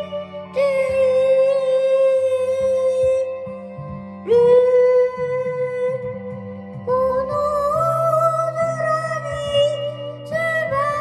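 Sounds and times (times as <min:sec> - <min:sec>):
soft backing music: 0:00.0 - 0:11.0.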